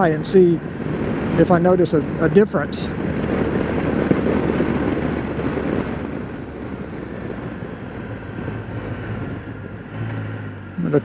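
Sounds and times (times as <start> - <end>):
road noise: 0.0 - 11.0
wind rushing over microphone: 0.0 - 11.0
trike engine: 0.2 - 11.0.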